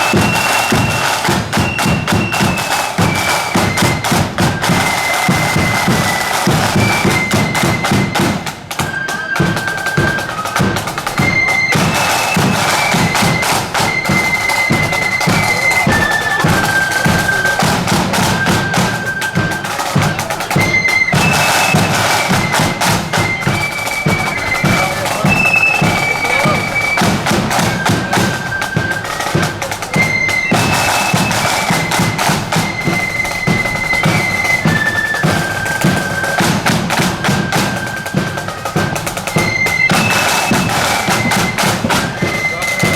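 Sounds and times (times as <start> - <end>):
flutes playing melody: 0.0 - 42.9.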